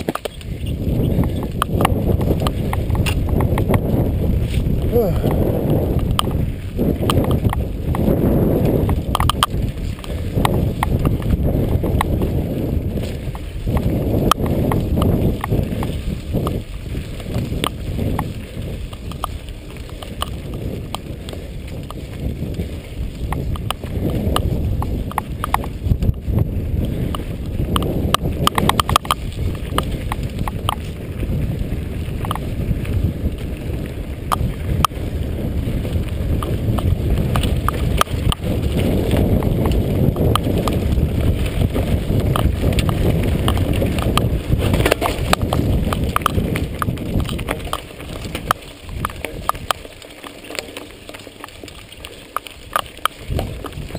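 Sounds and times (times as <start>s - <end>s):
bike clicking and rattling: 0.0s - 53.9s
tyres on dirt: 0.0s - 53.9s
wind on microphone: 0.0s - 53.9s.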